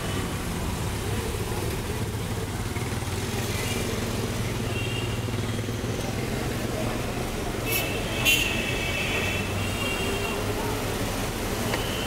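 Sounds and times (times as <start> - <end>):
motorcycles passing: 0.0 - 11.7.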